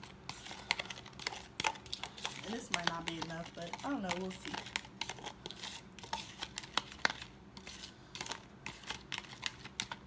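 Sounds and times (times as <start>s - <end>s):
metal spoon stirring in plastic bowl: 0.0s - 10.0s.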